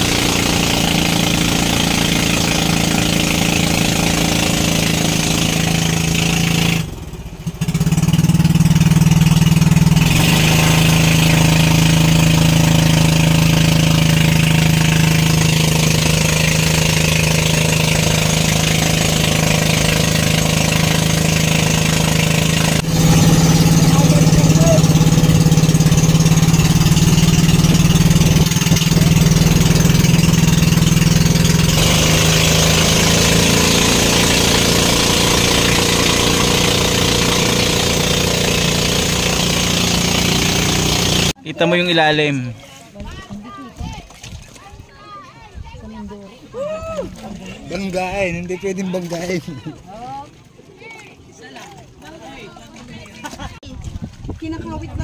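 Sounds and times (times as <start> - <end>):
boat engine running: 0.0 - 44.7, 45.6 - 55.0
water rushing and splashing: 0.0 - 55.0.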